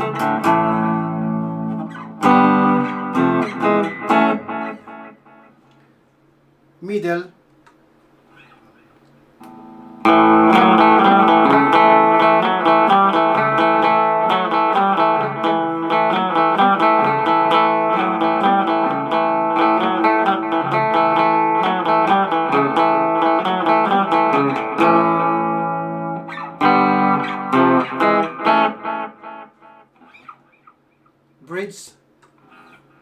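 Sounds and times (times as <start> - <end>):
electric guitar picking with delay: 0.0 - 5.5, 9.4 - 30.6.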